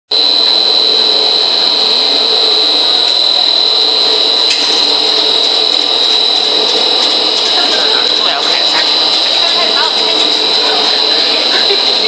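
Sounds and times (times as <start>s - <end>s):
high-pitched machine whine: 0.1s - 12.0s
loud steady machine noise: 0.1s - 12.0s.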